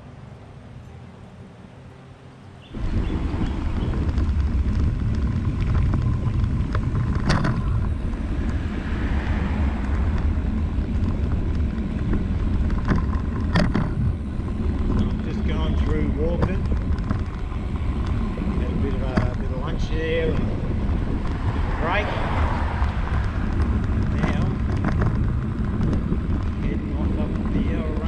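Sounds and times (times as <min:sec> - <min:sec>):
car passing: 0:00.0 - 0:28.0
wind buffeting microphone: 0:02.6 - 0:28.0
bicycle tyre noise: 0:02.7 - 0:28.0.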